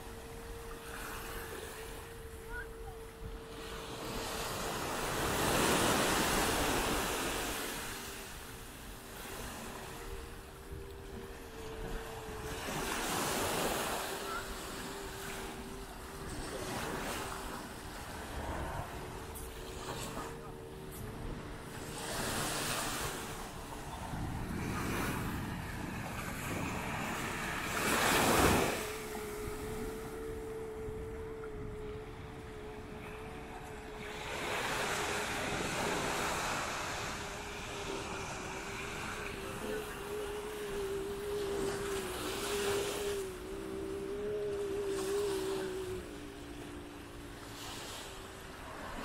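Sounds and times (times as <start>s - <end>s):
surf washing on beach: 0.0s - 49.0s
wind buffeting microphone: 0.0s - 49.0s.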